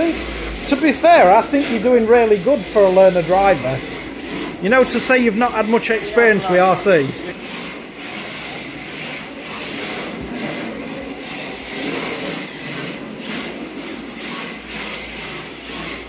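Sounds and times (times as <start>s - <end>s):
rc car whirring and scrubbing: 0.0s - 16.0s.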